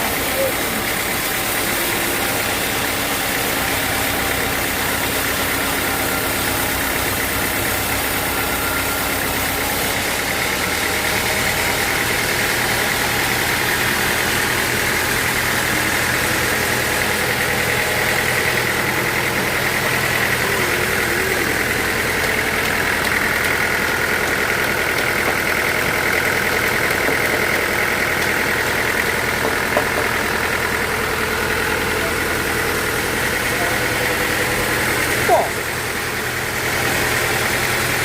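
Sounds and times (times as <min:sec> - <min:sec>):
sawmill machinery drone: 0:00.0 - 0:38.0.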